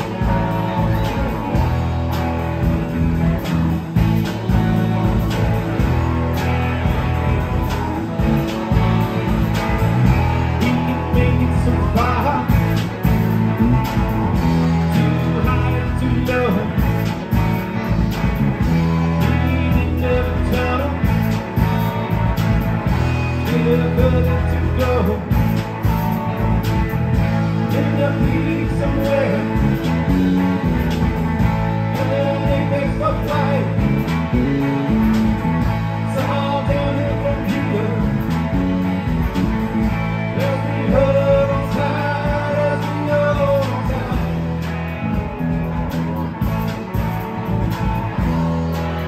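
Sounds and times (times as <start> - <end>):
drum kit: 0.0 - 49.0
electric bass: 0.0 - 49.0
electric guitars: 0.0 - 49.0.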